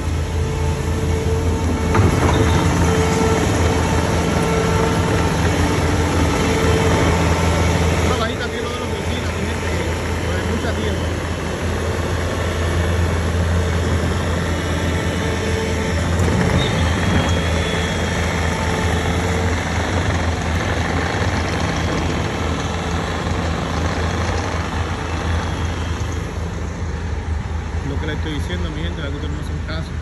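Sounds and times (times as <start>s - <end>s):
dump truck engine running: 0.0s - 30.0s
track loader engine driving off: 0.0s - 30.0s.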